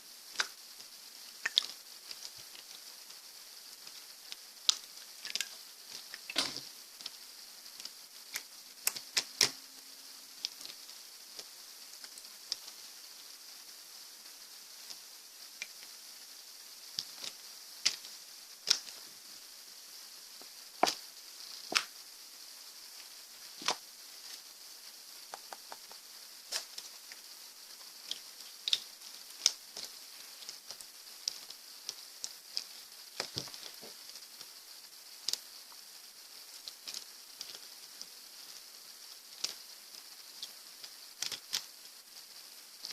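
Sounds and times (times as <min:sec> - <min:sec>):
faint steady hiss: 0:00.0 - 0:42.9.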